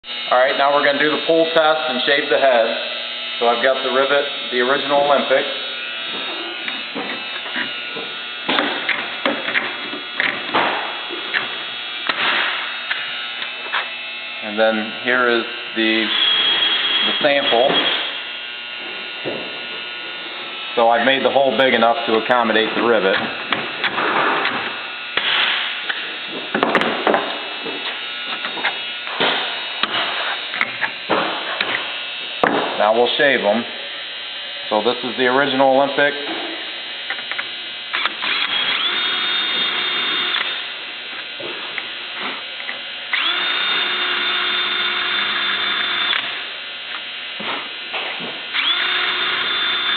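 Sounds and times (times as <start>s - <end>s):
electric hum: 0.0s - 49.9s.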